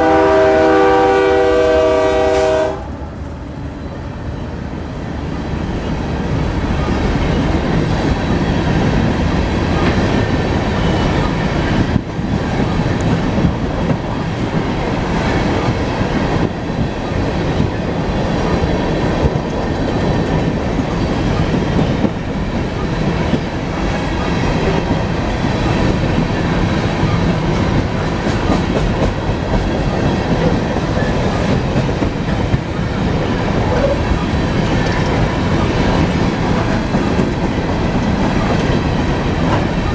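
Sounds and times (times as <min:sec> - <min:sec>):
train wheels rumbling on rail: 0:00.0 - 0:39.9
rhythmic clickety-clack: 0:07.0 - 0:39.9.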